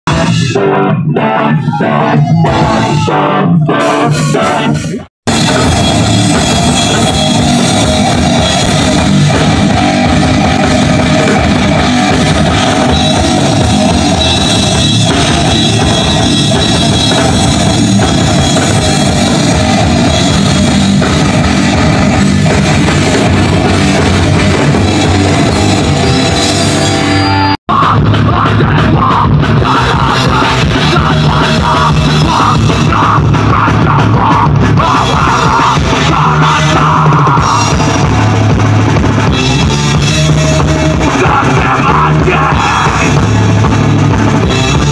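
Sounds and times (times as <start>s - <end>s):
loud punk rock music: 0.0s - 44.9s.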